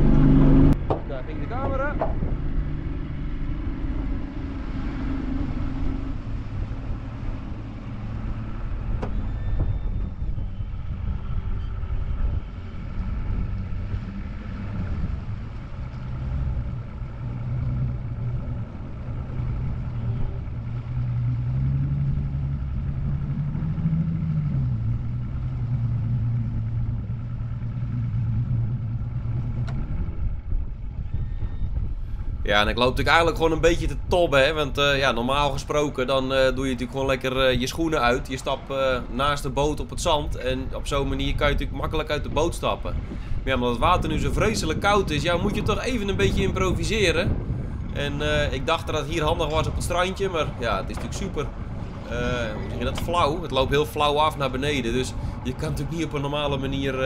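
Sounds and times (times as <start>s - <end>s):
outboard motor running: 0.0s - 57.0s
wind: 0.0s - 57.0s.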